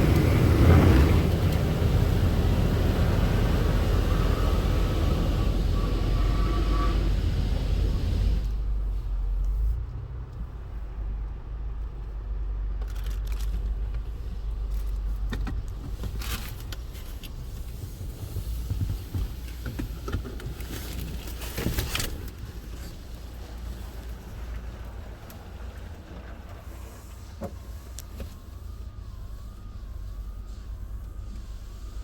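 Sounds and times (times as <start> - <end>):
car wash low rumble: 0.0 - 32.0.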